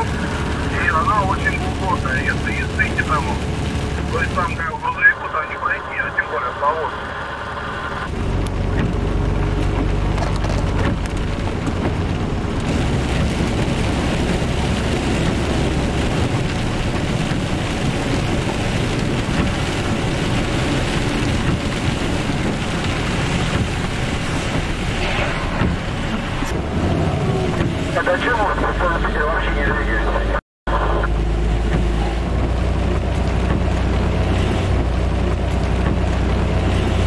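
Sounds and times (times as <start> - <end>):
low engine drone: 0.0 - 37.0
rain rushing: 0.0 - 37.0
tyre noise on wet road: 0.0 - 37.0.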